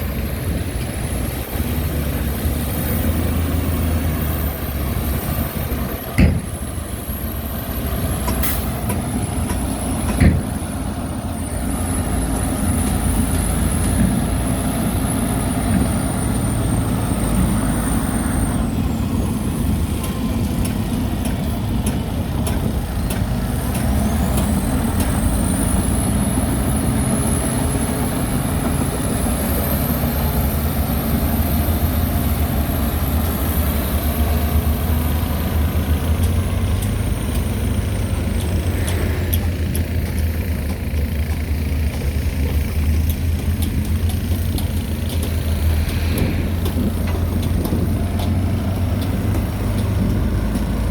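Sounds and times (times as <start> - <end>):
diesel machinery running: 0.0 - 50.9.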